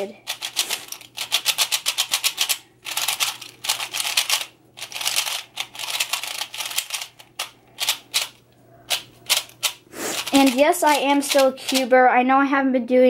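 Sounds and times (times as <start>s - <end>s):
plastic puzzle cube clicking: 0.3s - 11.9s.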